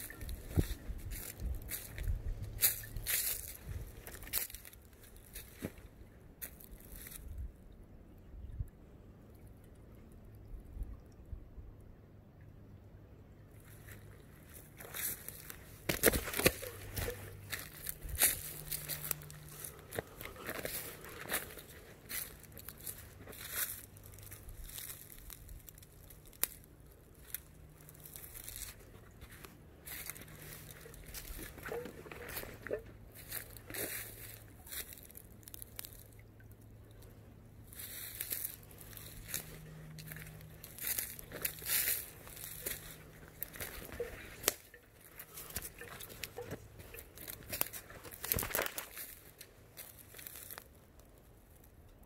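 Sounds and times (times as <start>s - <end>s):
footsteps crunching dry leaves: 0.0s - 7.2s, 13.7s - 36.1s, 37.6s - 50.8s.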